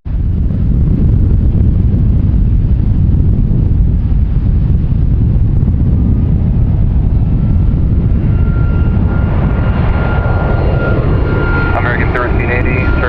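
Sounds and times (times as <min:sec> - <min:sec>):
high whine: 0:00.1 - 0:13.0
jet engines rumbling: 0:00.1 - 0:13.0.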